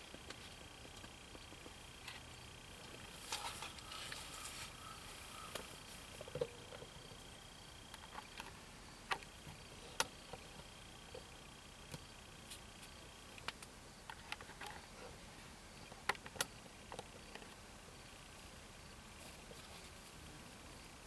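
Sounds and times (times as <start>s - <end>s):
background hiss: 0.0s - 21.0s.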